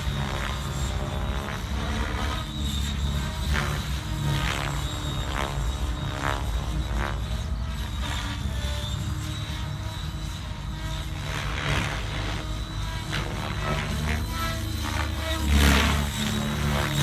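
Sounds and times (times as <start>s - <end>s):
helicopter rotor hum: 0.0s - 17.0s.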